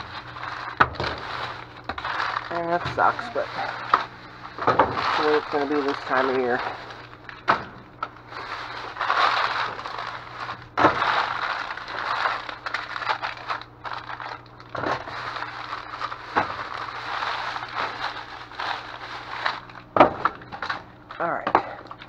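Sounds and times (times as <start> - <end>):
plastic wrappers crinkling: 0.0 - 22.0.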